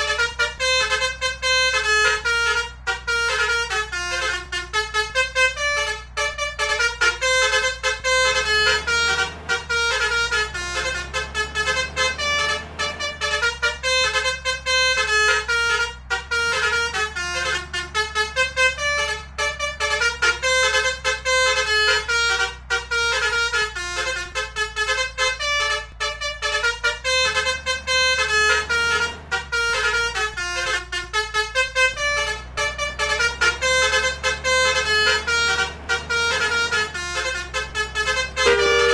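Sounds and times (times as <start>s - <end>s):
musical air horns playing melody: 0.0s - 38.9s.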